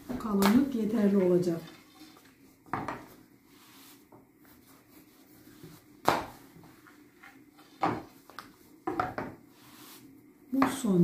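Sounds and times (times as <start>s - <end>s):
rolling pin rolling dough: 0.0s - 11.0s.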